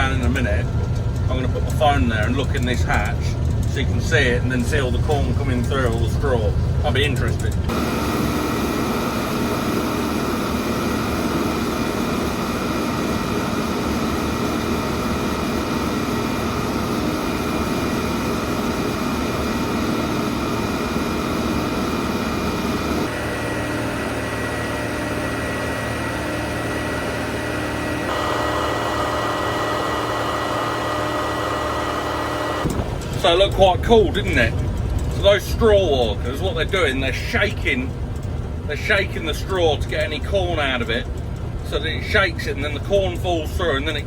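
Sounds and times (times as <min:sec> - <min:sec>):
combine harvester threshing: 0:00.0 - 0:44.0.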